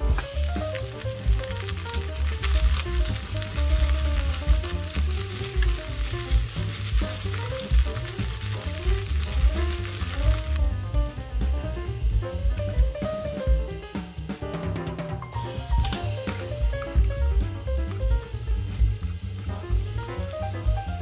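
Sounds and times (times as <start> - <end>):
rice sizzling in a frying pan: 0.0 - 13.5, 15.6 - 17.7, 18.6 - 21.0
background music: 0.0 - 21.0.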